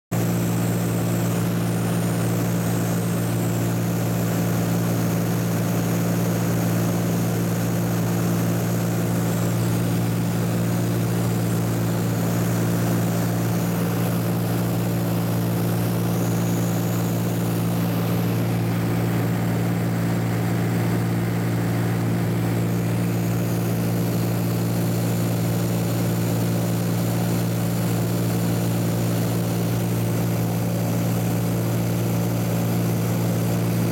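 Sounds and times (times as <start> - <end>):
propeller aircraft engine drone: 0.1 - 33.9.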